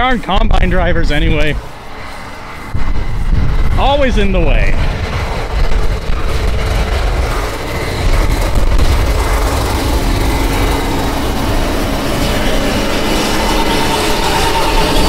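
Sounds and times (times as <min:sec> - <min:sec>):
combine harvester rumbling: 0:00.0 - 0:15.0.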